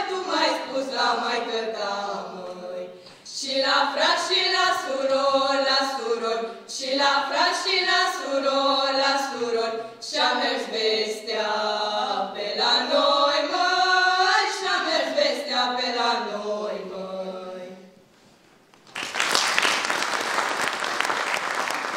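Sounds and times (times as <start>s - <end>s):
women singing in harmony: 0.0s - 18.0s.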